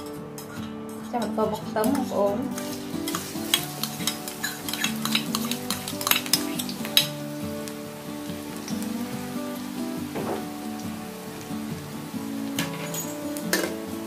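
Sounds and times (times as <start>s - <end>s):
soft background music: 0.0s - 14.0s
garlic sizzling in hot oil: 1.6s - 14.0s.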